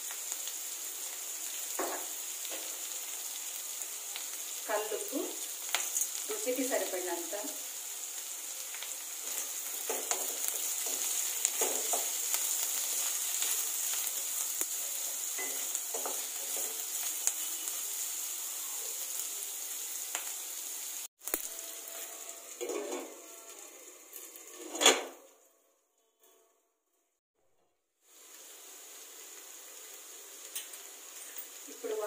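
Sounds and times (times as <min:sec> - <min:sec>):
vegetables sizzling in oil: 0:00.0 - 0:24.7, 0:28.0 - 0:32.0.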